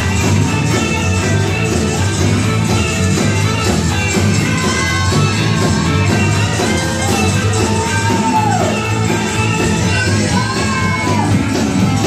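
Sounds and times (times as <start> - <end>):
drum kit: 0.0 - 12.0
guitar: 0.0 - 12.0
live band playing upbeat song: 0.0 - 12.0.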